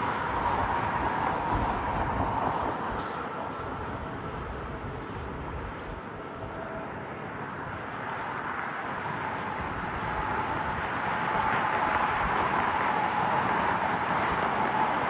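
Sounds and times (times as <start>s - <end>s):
jet engine roar: 0.0s - 15.0s
jet engine whine: 0.0s - 15.0s.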